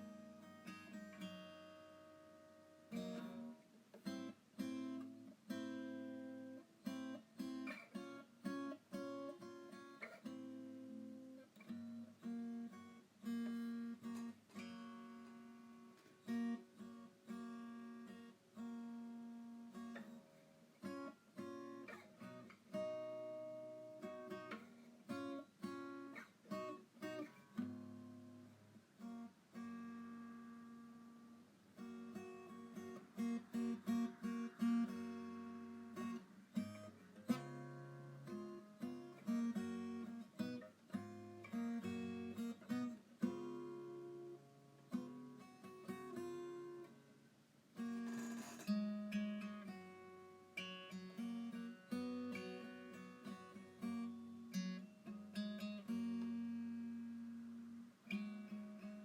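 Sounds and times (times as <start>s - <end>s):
acoustic guitar picking and strumming: 0.0s - 59.0s.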